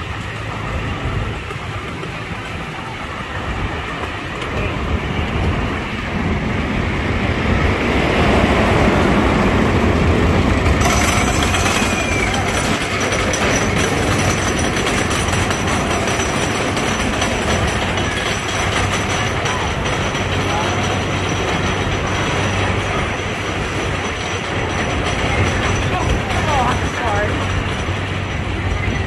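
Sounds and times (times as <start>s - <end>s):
miniature train wheels rumbling: 0.0s - 29.0s.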